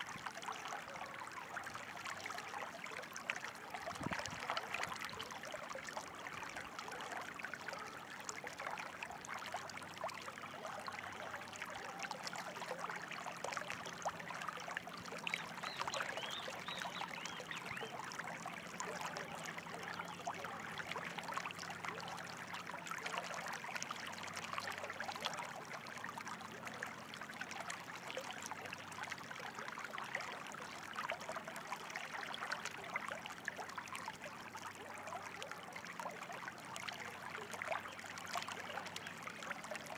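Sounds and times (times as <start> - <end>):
water babbling and trickling: 0.0 - 39.9.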